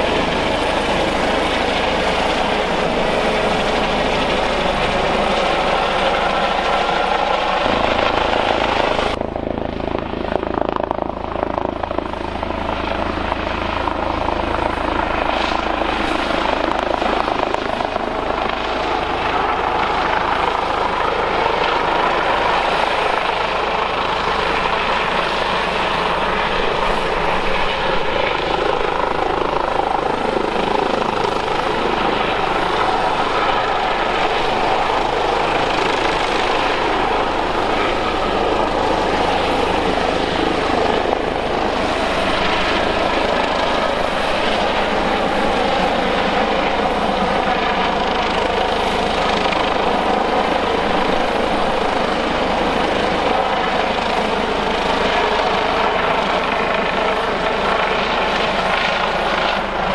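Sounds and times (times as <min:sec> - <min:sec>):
helicopter hovering drone: 0:00.0 - 0:59.9.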